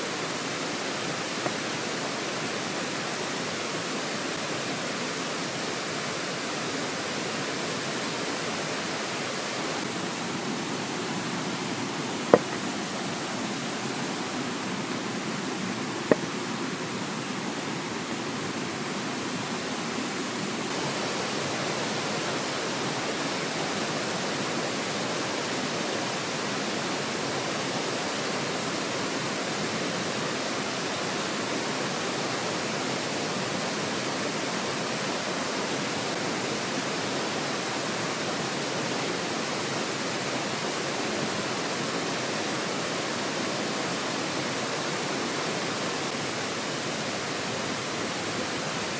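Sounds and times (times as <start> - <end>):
mountain stream rushing: 0.0 - 48.9.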